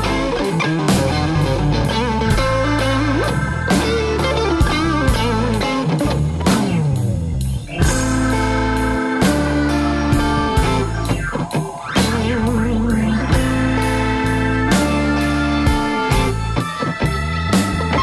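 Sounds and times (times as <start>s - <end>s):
bass guitar: 0.0s - 18.0s
drum kit: 0.0s - 18.0s
electric guitar lead: 0.0s - 18.0s.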